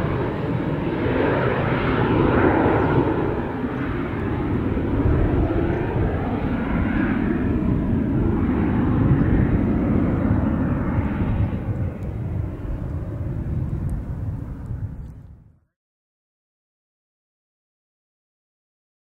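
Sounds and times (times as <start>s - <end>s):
jet aircraft climbing: 0.0s - 15.6s.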